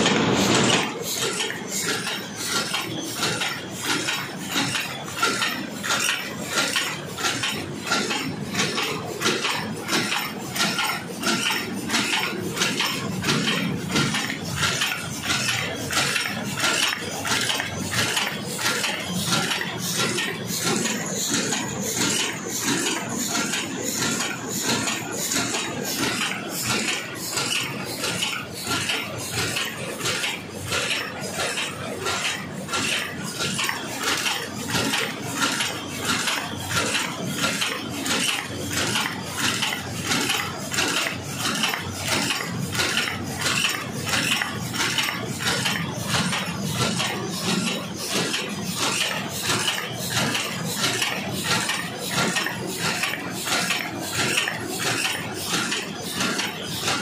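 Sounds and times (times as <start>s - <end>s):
machine metallic clatter: 0.0s - 57.0s.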